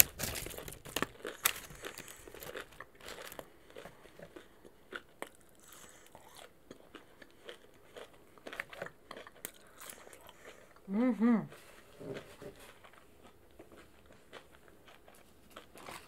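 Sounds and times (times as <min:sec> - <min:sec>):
person chewing crunchy food: 0:00.0 - 0:10.9, 0:11.7 - 0:16.0.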